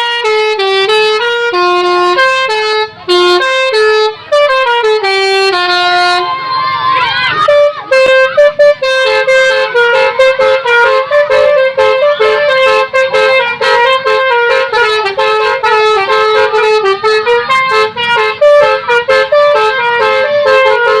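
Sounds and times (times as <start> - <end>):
multi-tone horn playing melody: 0.0 - 6.5, 7.2 - 21.0.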